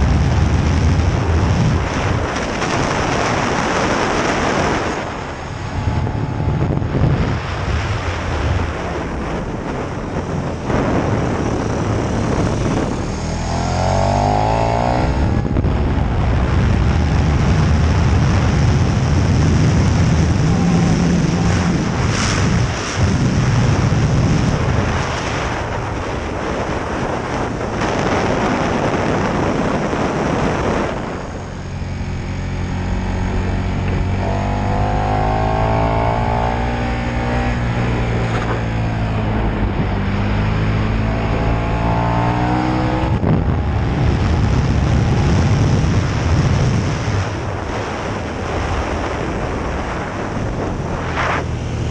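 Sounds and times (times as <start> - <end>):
motorcycle engine at speed: 0.0 - 51.9
wind noise on microphone: 0.0 - 51.9.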